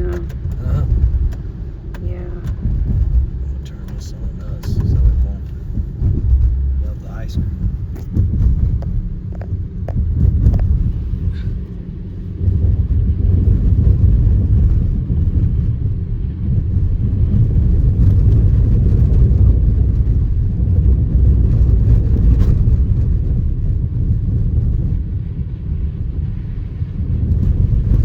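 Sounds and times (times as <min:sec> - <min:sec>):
car driving on slushy road: 0:00.0 - 0:28.0.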